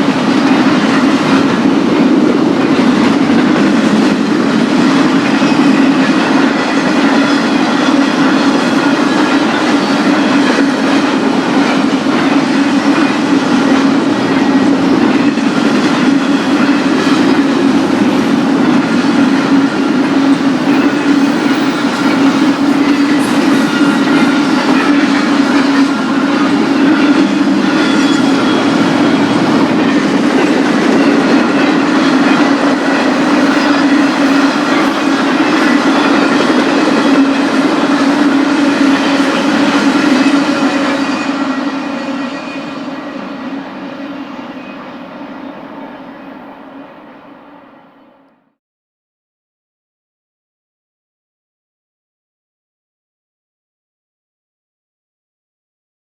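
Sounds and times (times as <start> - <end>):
wheels clickety-clack on rails: 0.0 - 46.4
freight train rolling past: 0.0 - 48.6.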